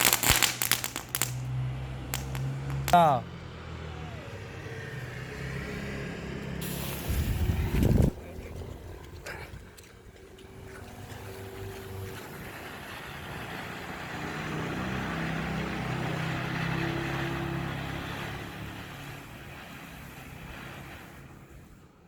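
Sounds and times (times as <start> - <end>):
vehicle driving past: 0.0 - 9.2, 10.3 - 21.8.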